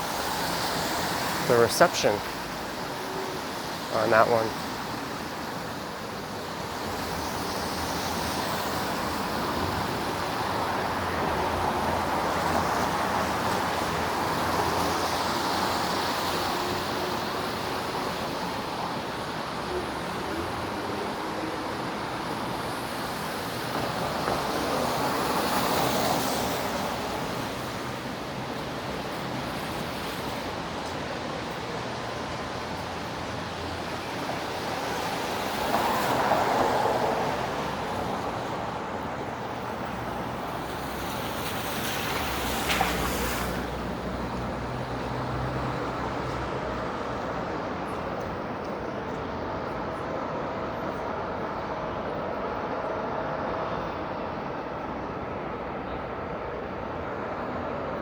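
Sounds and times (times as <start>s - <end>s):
tyres hissing on wet road: 0.0s - 48.2s.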